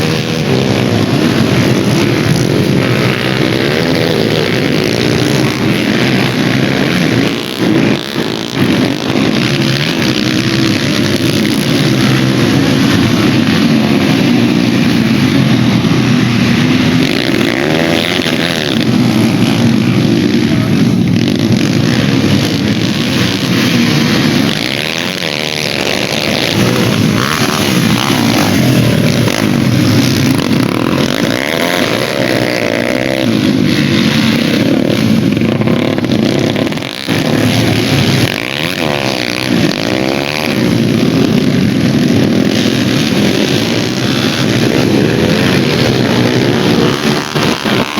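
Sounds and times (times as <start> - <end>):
dirt bike engines revving: 0.0 - 47.9.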